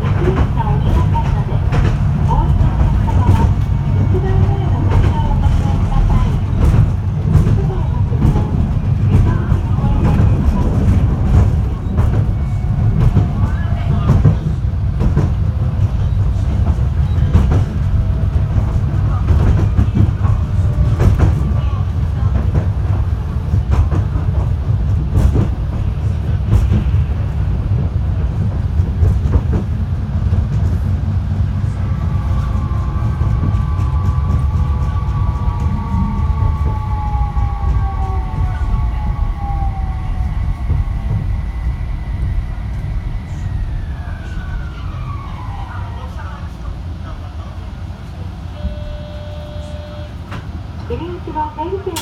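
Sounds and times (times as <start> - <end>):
tram rumbling: 0.0 - 52.0.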